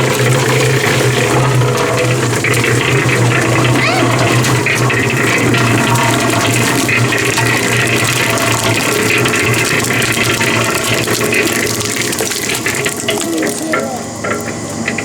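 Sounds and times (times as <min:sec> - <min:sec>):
concrete mixer motor hum: 0:00.0 - 0:15.0
drum churning wet sand: 0:00.0 - 0:15.0.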